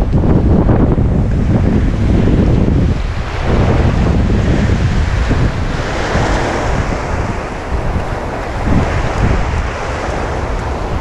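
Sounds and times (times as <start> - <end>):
surf rushing: 0.0 - 11.0
wind buffeting microphone: 0.0 - 11.0.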